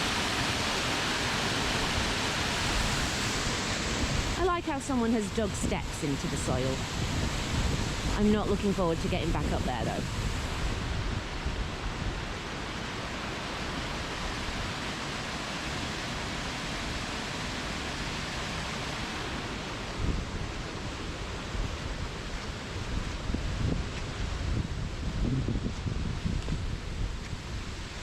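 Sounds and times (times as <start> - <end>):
waterfall rushing: 0.0 - 22.9
wind rumbling on microphone: 0.0 - 28.0.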